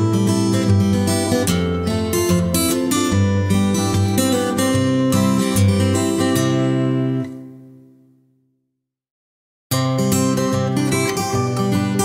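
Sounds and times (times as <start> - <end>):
acoustic guitar strumming chords: 0.0 - 8.1, 9.7 - 12.0.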